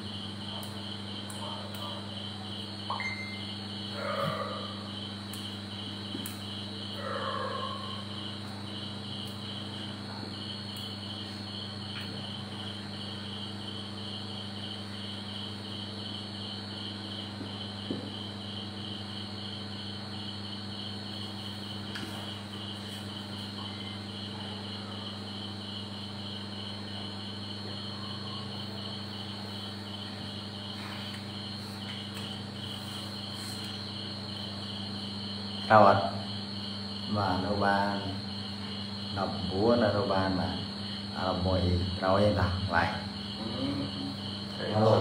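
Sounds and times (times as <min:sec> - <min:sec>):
cricket chirping: 0:00.0 - 0:45.0
low electrical hum: 0:00.0 - 0:45.0.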